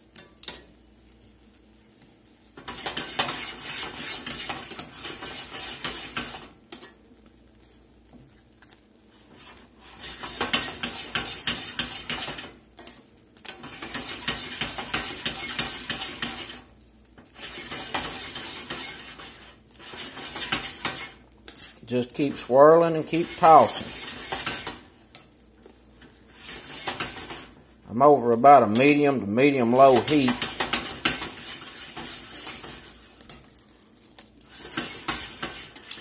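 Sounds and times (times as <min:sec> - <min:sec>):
sauce sloshing and sizzling: 0:00.0 - 0:27.8, 0:30.4 - 0:36.0.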